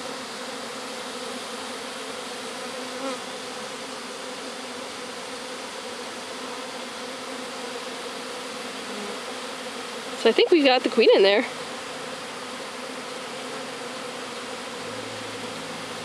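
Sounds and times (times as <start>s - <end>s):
bee buzz rising in pitch: 0.0s - 16.0s
swarm of bees humming: 0.0s - 16.0s.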